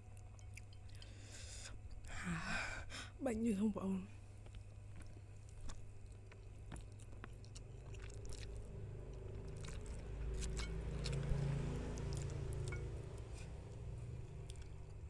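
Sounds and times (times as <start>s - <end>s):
chewing noodles: 0.0s - 2.1s, 4.4s - 15.0s
low hum: 0.1s - 15.0s.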